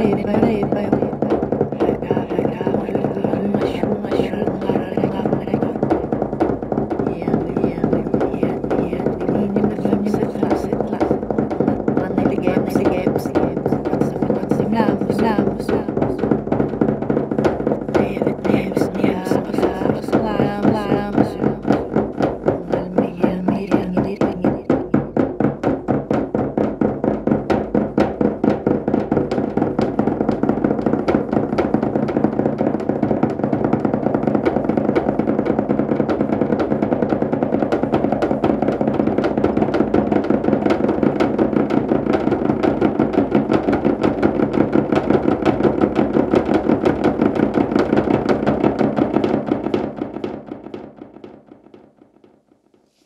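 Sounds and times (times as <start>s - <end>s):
fast drumbeat: 0.0s - 52.0s.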